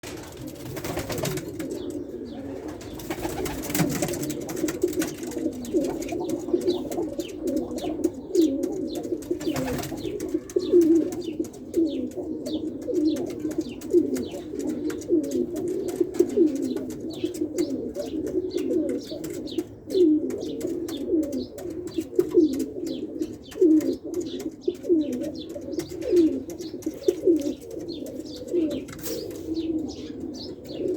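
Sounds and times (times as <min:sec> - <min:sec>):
pigeons cooing: 0:00.1 - 0:30.9.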